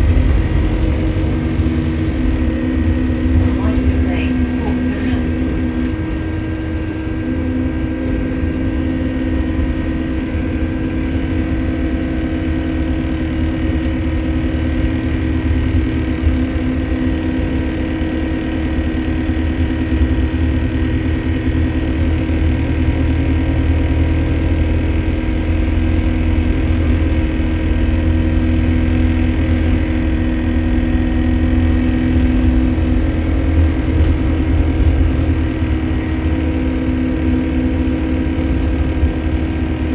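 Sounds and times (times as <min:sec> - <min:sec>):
bus engine rumble: 0:00.0 - 0:39.9
droning hum: 0:00.0 - 0:39.9.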